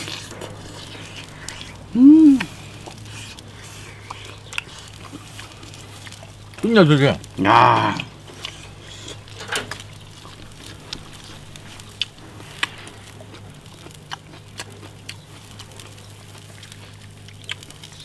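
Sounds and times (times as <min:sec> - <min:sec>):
crackles and clicks of tongs on grate: 0:00.0 - 0:06.8, 0:08.1 - 0:18.0
low steady hum: 0:00.0 - 0:18.0.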